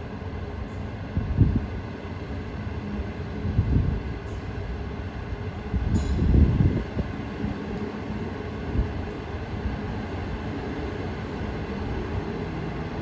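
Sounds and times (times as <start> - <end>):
train coaches rolling on rails: 0.0 - 13.0.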